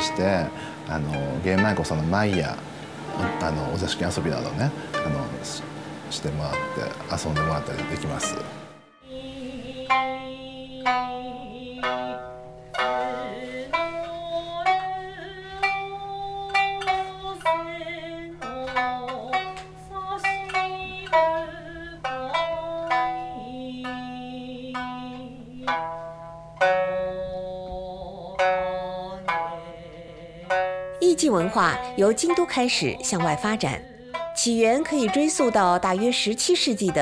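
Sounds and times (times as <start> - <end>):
person singing long notes: 0.0 - 37.0
shamisen plucked strokes: 0.0 - 37.0.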